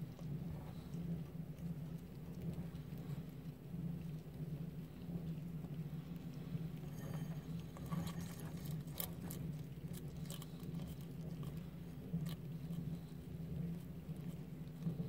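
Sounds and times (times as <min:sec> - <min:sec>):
lizard chewing leaves: 0:00.0 - 0:15.0
steady low hum: 0:00.0 - 0:15.0.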